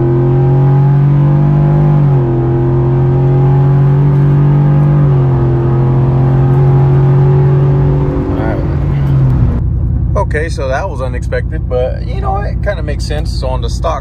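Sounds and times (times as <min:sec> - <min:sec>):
transmission shifting up: 0:00.0 - 0:14.0
truck engine accelerating hard: 0:00.0 - 0:14.0.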